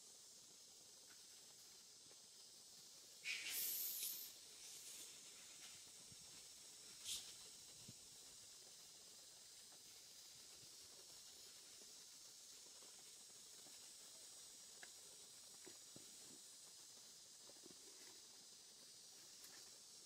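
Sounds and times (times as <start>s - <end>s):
faint high hiss: 0.0s - 20.0s.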